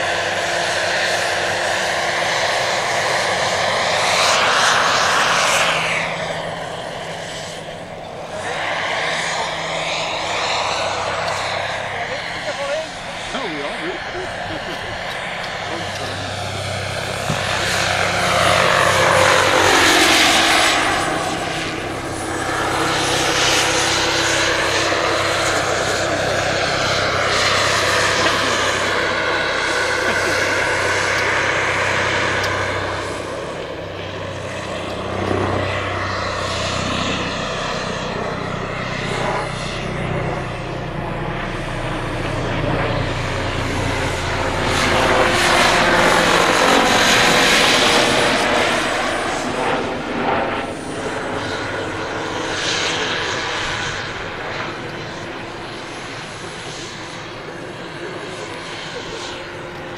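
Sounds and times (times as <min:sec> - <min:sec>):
model helicopter rotor whine: 0:00.0 - 0:59.9.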